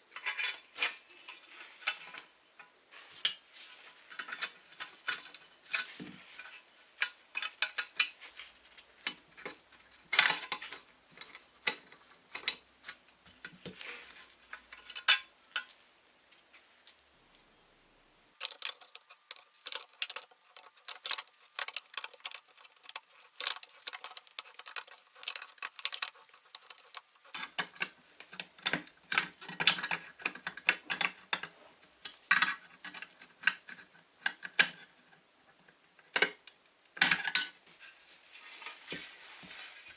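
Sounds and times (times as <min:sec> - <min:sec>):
faint steady hum: 0:01.2 - 0:33.6.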